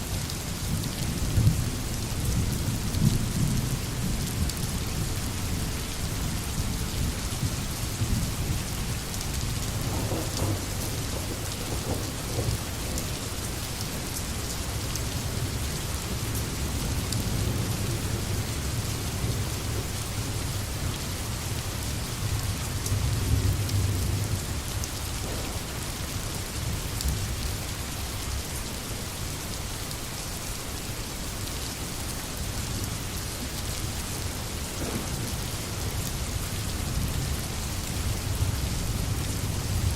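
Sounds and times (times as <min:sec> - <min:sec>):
rain falling through forest: 0:00.0 - 0:39.9.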